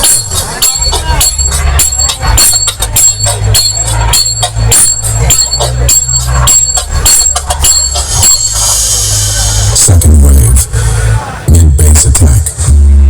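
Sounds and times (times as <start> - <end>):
loud dance music: 0.0 - 13.0.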